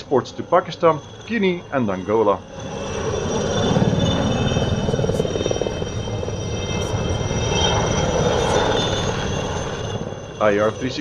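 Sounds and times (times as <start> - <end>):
helicopter rotor beat: 0.0 - 11.0
turbine engine whine: 0.0 - 11.0.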